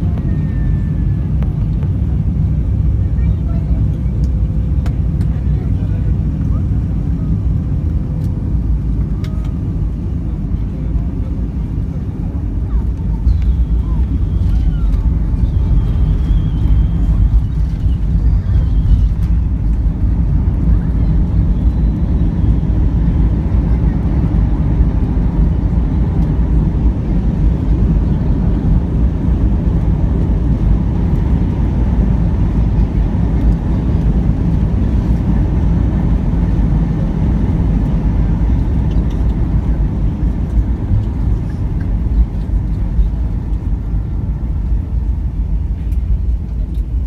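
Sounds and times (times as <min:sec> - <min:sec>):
airliner wheels and engines rumbling: 0:00.0 - 0:47.0.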